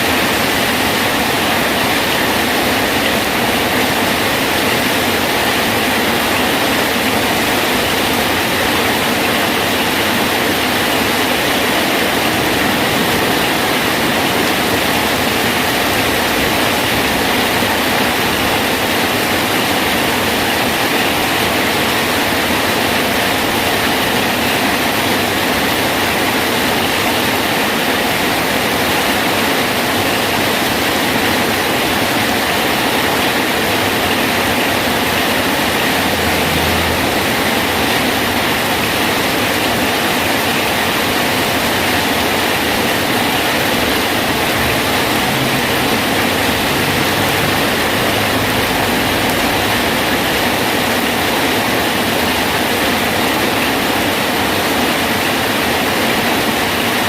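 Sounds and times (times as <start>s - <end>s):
rain falling steadily: 0.0s - 57.0s.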